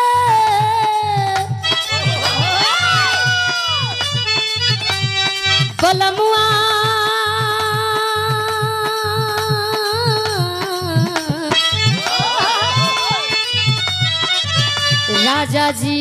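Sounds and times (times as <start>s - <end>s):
instrumental accompaniment: 0.0s - 16.0s
steady drum beat: 0.0s - 16.0s.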